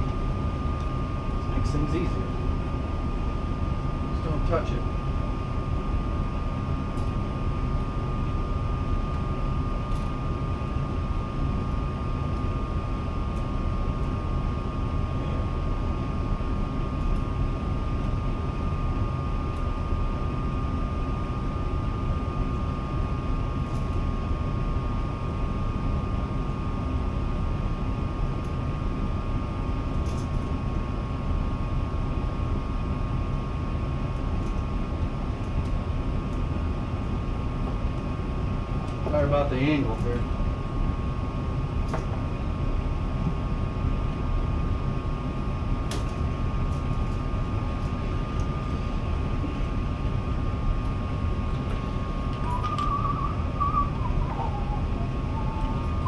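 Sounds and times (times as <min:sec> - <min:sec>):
low machine drone with whine: 0:00.0 - 0:56.0.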